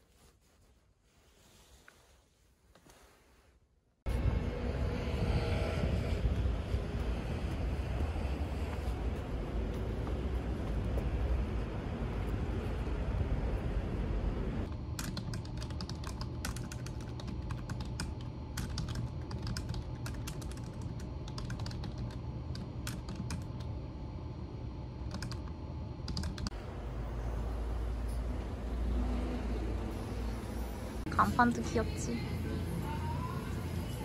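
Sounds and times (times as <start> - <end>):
low outdoor rumble: 4.0 - 34.0.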